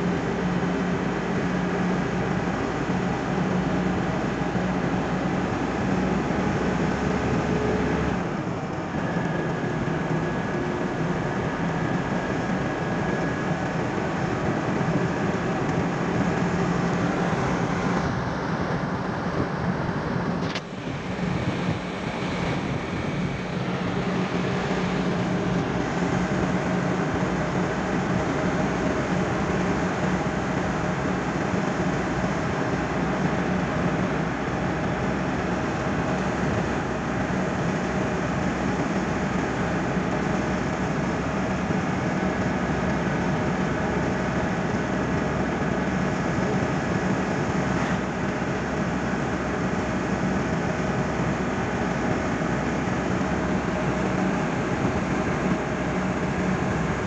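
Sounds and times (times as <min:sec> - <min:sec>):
car cabin road drone: 0:00.0 - 0:57.0.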